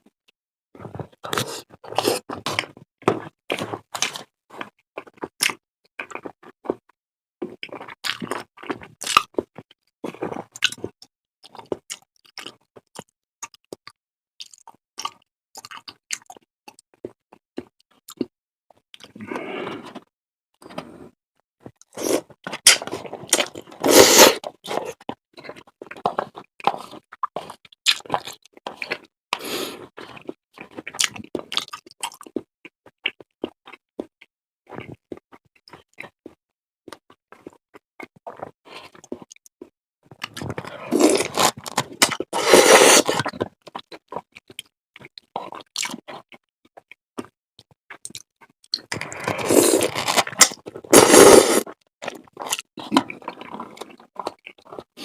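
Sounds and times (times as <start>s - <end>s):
person chewing: 0.9s - 6.8s, 7.4s - 18.3s, 21.7s - 34.9s, 35.6s - 47.3s, 48.0s - 55.0s.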